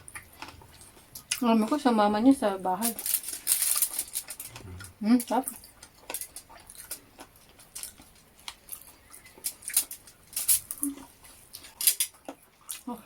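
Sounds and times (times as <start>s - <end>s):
chewing crisp fried chicken: 0.0s - 2.2s, 2.8s - 13.0s.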